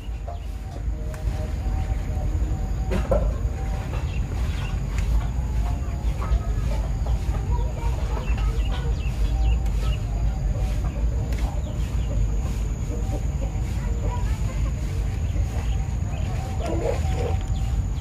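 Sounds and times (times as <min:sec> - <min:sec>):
chickens clucking: 0:00.0 - 0:18.0
steady low rumble: 0:00.0 - 0:18.0.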